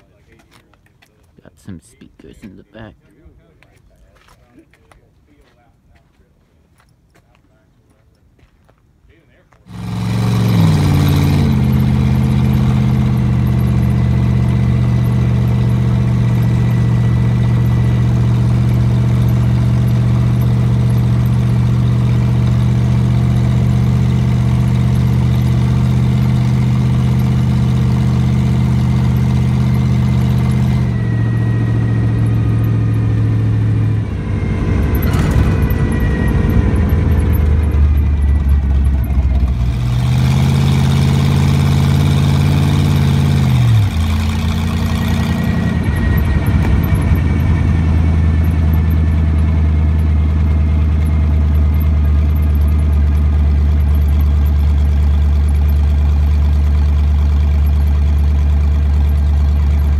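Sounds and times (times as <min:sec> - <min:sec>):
car exhaust drone: 0:09.6 - 0:59.9.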